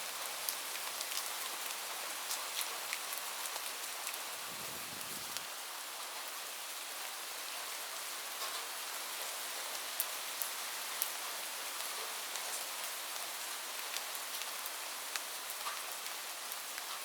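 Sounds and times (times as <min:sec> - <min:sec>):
steady rainfall hiss: 0:00.0 - 0:17.0.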